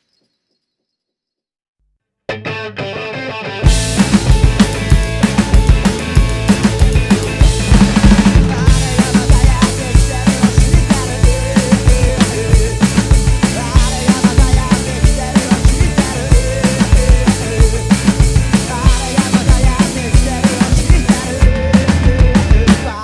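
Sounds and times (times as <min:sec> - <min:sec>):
recorded rock backing track: 0:02.3 - 0:23.0
rock drum kit played hard: 0:03.6 - 0:23.0.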